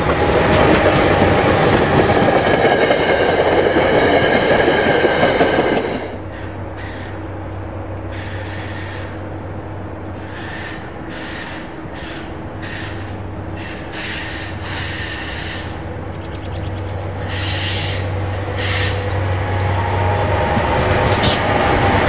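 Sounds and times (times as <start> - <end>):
locomotive engine drone: 0.0 - 22.0
wheel and rail noise: 0.0 - 22.0.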